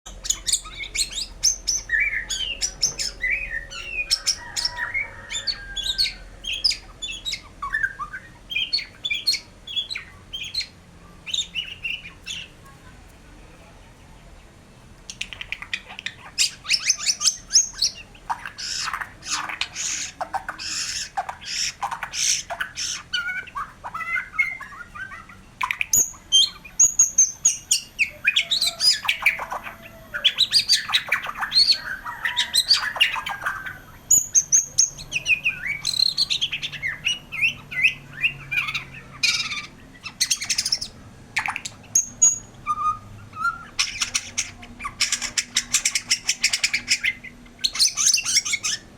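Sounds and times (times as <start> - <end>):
bird whistling and chattering: 0.1 - 12.5, 15.1 - 48.9.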